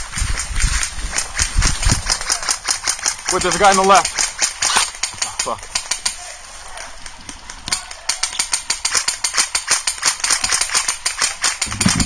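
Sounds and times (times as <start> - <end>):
airsoft guns firing: 0.6 - 6.3, 6.9 - 12.0.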